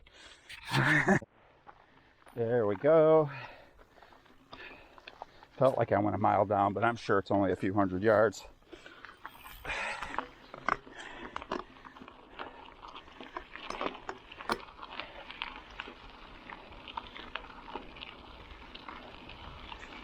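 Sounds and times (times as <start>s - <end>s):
gravel crunching: 0.2s - 20.0s.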